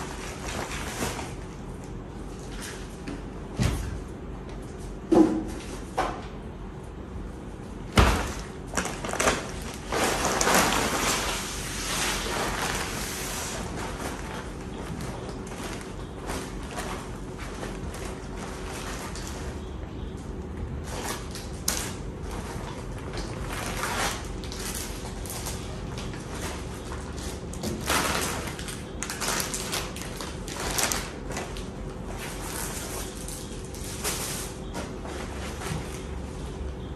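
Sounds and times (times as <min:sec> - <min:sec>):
plastic bag rustling: 0:00.0 - 0:03.0, 0:08.0 - 0:19.6, 0:20.8 - 0:36.7.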